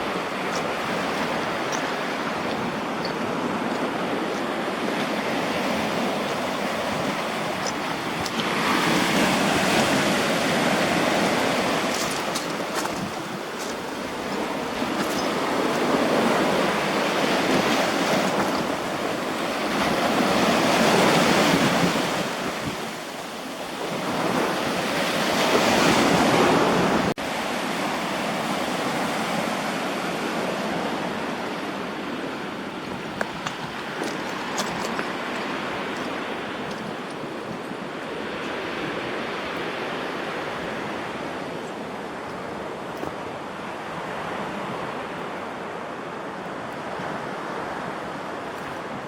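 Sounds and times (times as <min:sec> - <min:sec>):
sea waves breaking ashore: 0:00.0 - 0:49.0.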